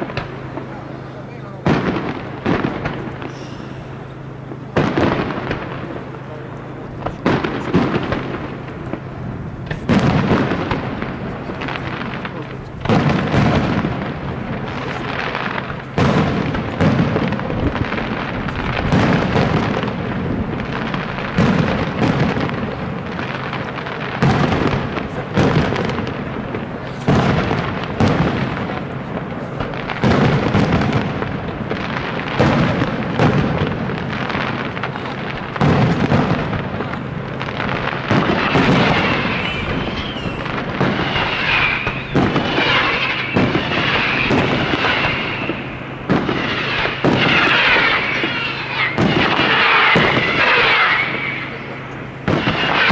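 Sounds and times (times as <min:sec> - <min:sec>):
fireworks bursting with booms: 0:00.0 - 0:52.9
high fireworks crackling: 0:00.0 - 0:52.9.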